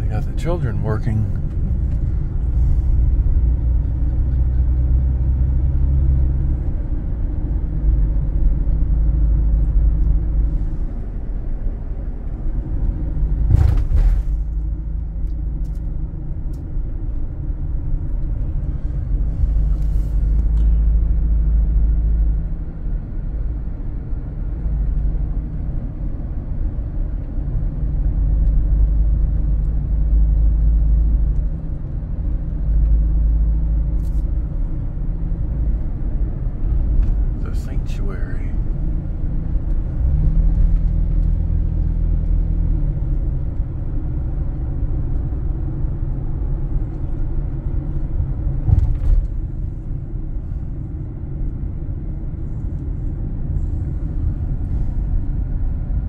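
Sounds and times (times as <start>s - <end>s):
car interior engine and road noise: 0.0s - 56.0s.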